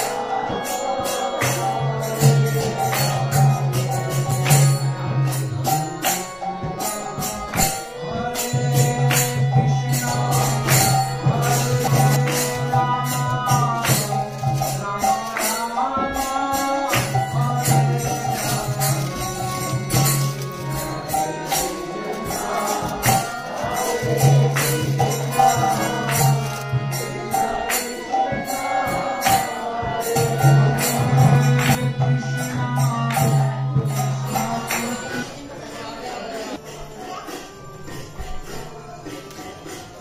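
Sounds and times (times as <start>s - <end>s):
devotional music: 0.0s - 40.0s
jingling hand percussion: 0.0s - 40.0s.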